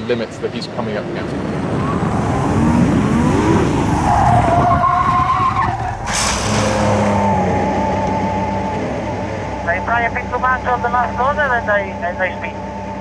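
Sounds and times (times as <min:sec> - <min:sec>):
racing car engine: 0:00.0 - 0:13.0.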